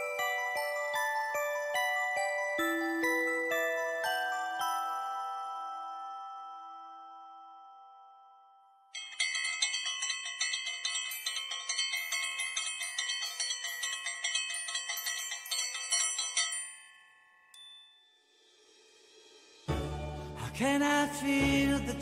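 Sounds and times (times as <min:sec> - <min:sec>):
chiming bell-like notes: 0:00.0 - 0:18.4.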